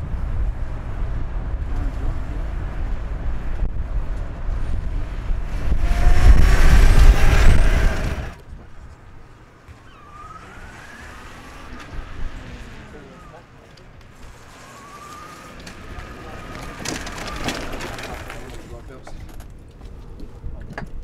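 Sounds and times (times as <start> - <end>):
road rumble: 0.0 - 21.0
wind buffeting: 0.0 - 21.0.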